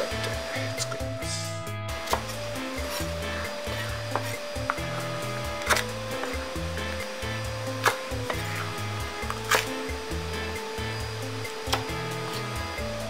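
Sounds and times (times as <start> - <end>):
background music with bass: 0.0 - 13.0.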